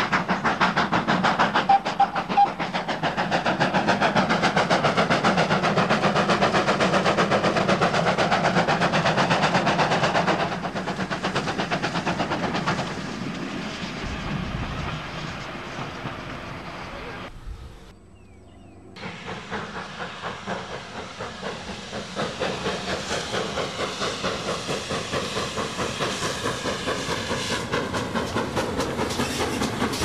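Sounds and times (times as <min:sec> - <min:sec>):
steam train running: 0:00.0 - 0:17.9, 0:19.0 - 0:30.0.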